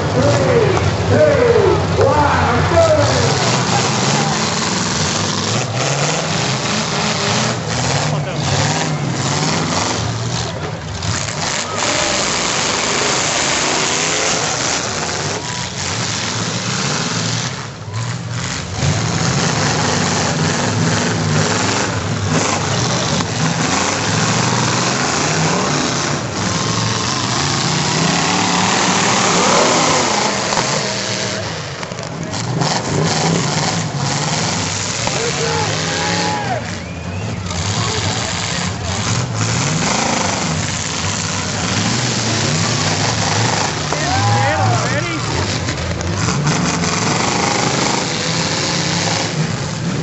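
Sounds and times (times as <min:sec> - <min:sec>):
car engines revving: 0:00.0 - 0:50.0
crowd voices: 0:00.0 - 0:50.0.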